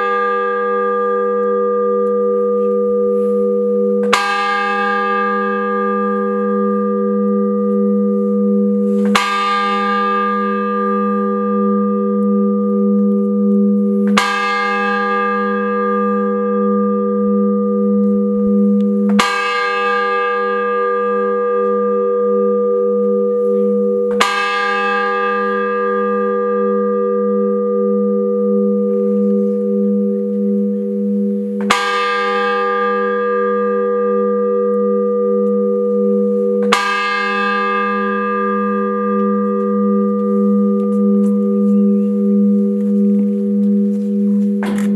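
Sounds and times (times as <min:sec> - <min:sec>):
large bell tolling: 0:00.0 - 0:44.9.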